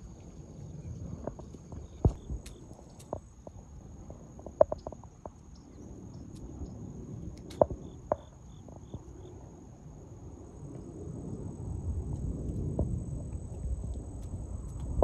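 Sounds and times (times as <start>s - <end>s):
insect chirps: 0.0s - 15.0s.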